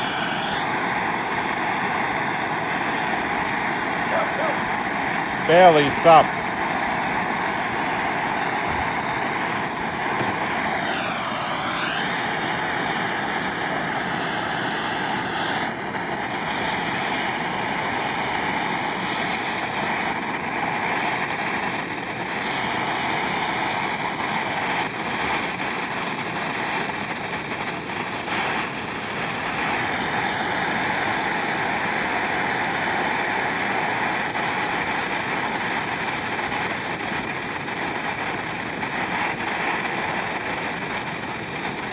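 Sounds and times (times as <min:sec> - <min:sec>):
gas torch hissing: 0:00.0 - 0:41.9.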